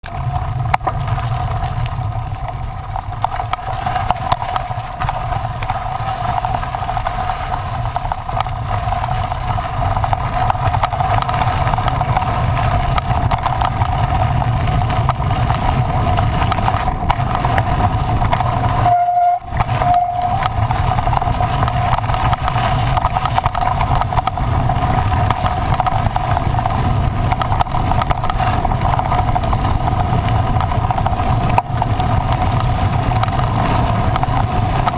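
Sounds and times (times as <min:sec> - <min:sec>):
small rattles and knocks: 0:00.0 - 0:34.9
steady whine: 0:00.0 - 0:34.9
vehicle engine rumbling: 0:00.0 - 0:34.9.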